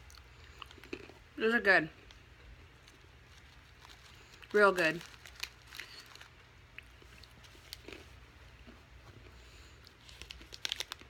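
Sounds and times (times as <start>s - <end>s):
faint chewing: 0.0s - 1.2s, 2.0s - 11.0s.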